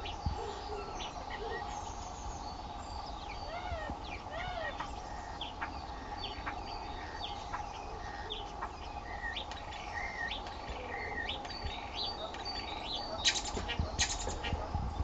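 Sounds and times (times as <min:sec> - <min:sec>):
starlings chirping and whistling: 0:00.0 - 0:15.0.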